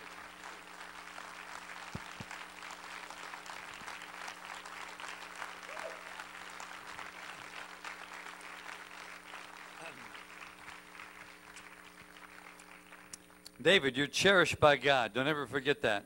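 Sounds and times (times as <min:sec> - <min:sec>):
crowd applauding: 0:00.0 - 0:13.2.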